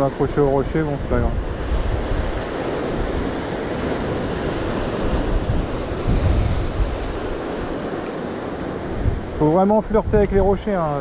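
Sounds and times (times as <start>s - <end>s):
surf breaking over rocks: 0.0s - 11.0s
wind buffeting microphone: 0.0s - 11.0s.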